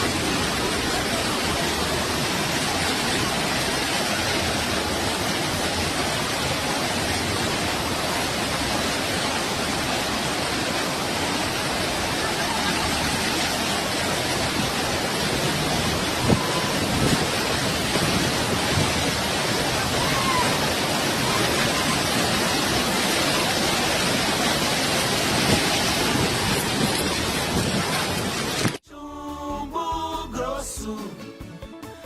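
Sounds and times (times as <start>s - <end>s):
floodwater rushing: 0.0s - 28.8s.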